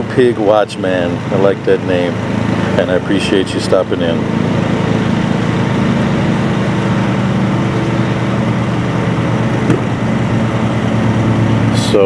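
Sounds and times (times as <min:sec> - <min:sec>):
engine running with pulsing drone: 0:00.0 - 0:12.0.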